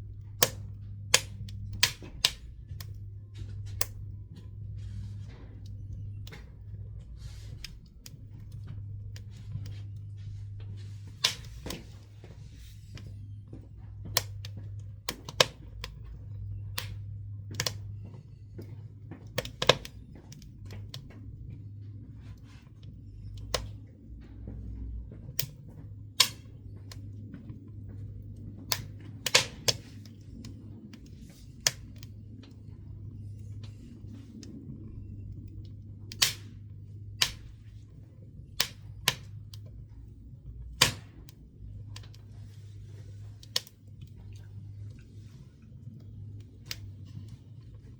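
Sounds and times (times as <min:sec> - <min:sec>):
steady low hum: 0:00.0 - 0:47.9
wood crackling in stove: 0:00.0 - 0:47.9.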